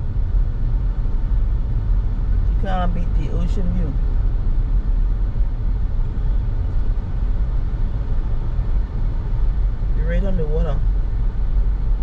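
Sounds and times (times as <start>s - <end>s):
steady low rumbling: 0.0s - 12.0s.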